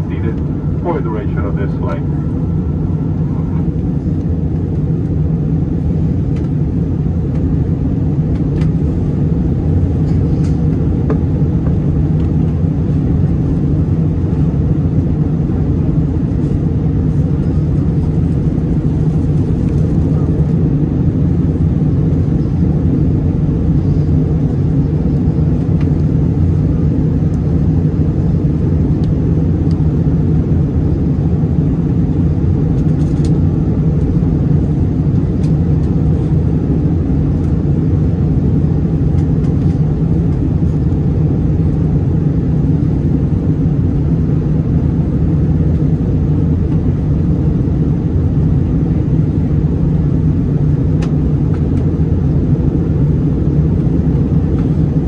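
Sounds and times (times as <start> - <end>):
airliner cabin roar: 0.0 - 55.0.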